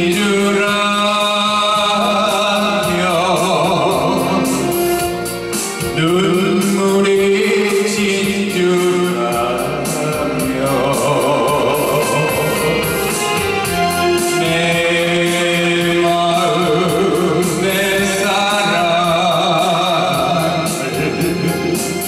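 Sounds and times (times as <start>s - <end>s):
instrumental accompaniment with beat: 0.0s - 22.0s
man singing through microphone: 0.0s - 22.0s.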